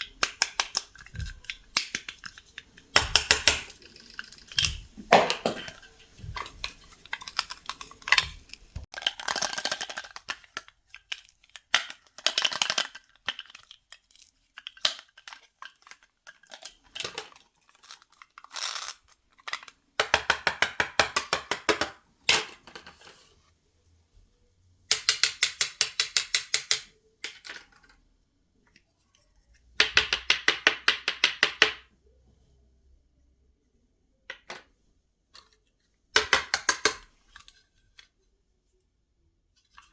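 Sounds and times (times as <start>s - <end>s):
plastic toy pieces handled: 0.0s - 23.3s, 24.9s - 31.3s, 34.3s - 38.2s, 39.6s - 39.9s.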